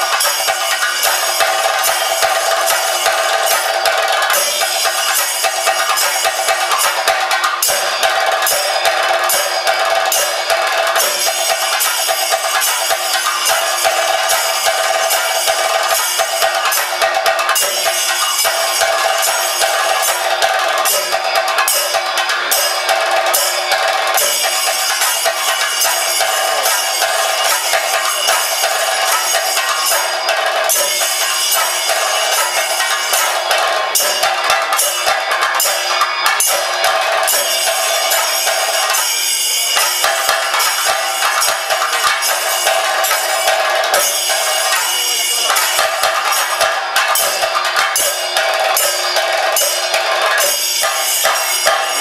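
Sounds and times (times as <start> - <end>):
drums beaten with sticks: 0.0 - 52.0
hand cymbals ringing: 0.0 - 52.0.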